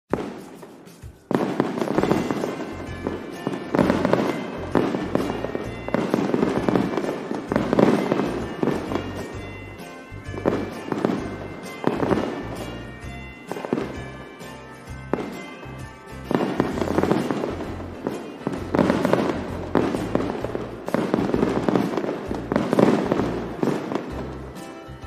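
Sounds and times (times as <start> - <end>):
aerial fireworks bursting: 0.1 - 25.0
music: 0.1 - 25.0.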